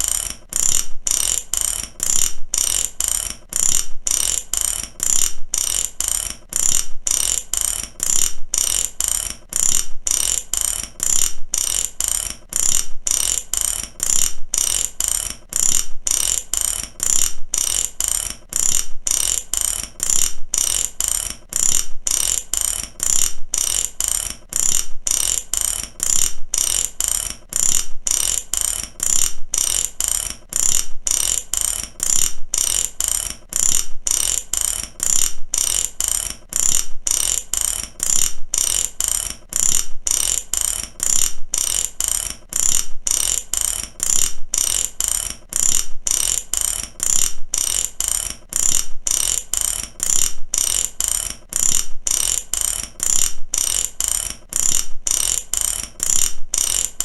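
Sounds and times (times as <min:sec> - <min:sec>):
ratchet wrench clicking: 0:00.0 - 0:57.0.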